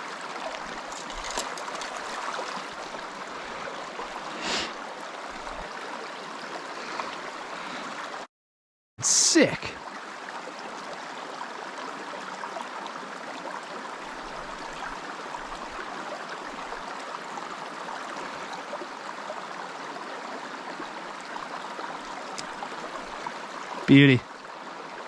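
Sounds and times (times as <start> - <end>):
creek water flowing: 0.0 - 8.3, 9.0 - 25.0.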